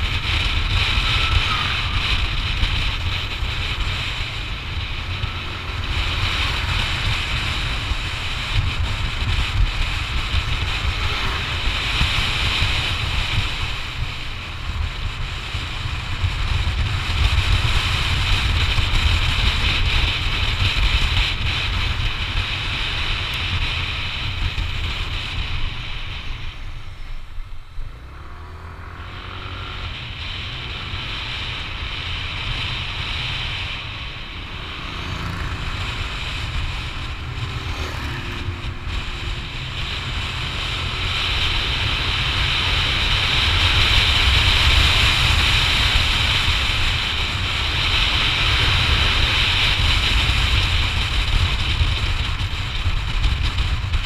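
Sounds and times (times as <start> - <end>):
road noise: 0.0 - 54.0
scooter engine: 0.0 - 54.0
wind rushing over microphone: 0.0 - 54.0.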